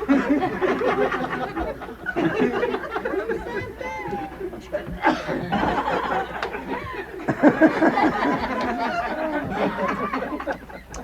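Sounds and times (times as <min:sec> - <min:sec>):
people snickering and chuckling: 0:00.0 - 0:11.0.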